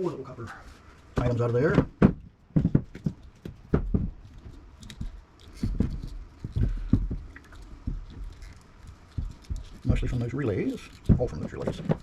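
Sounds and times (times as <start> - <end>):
scrap parts clicking and tapping: 0.9 - 12.0.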